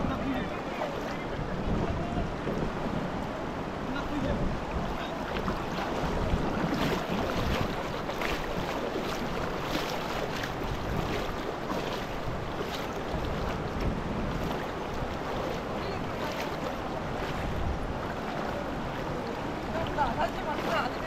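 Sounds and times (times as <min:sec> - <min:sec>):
faint water splashes: 0:00.0 - 0:21.0
water rushing through channel: 0:00.0 - 0:21.0.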